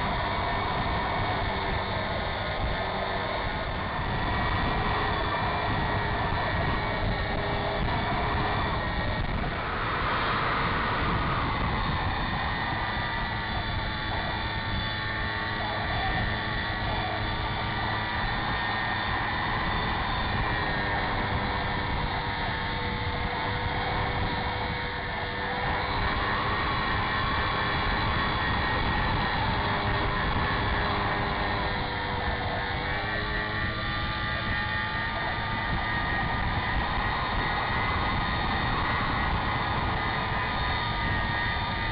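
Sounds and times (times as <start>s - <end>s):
propeller plane engine: 0.0s - 41.9s
rushing air: 0.0s - 41.9s.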